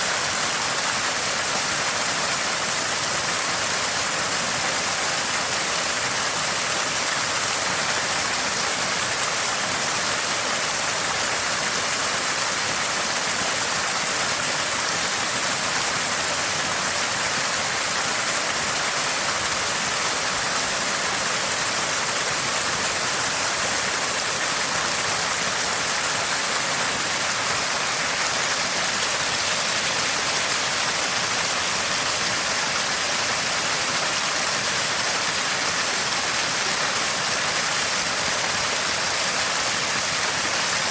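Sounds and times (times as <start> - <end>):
water gushing from spring: 0.0 - 40.9.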